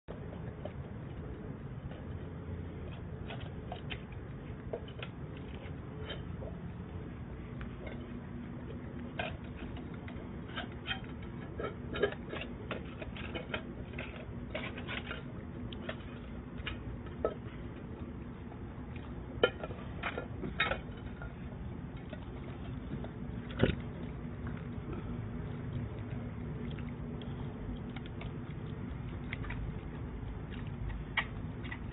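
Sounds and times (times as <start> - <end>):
low hum: 0.1 - 31.9.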